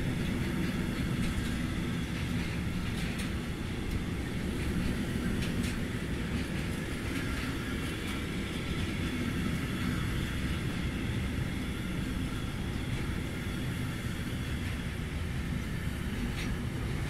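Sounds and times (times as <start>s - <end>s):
clicking over rail joints: 0.0s - 11.3s, 14.4s - 17.0s
train wheels rumbling on rail: 0.0s - 17.0s.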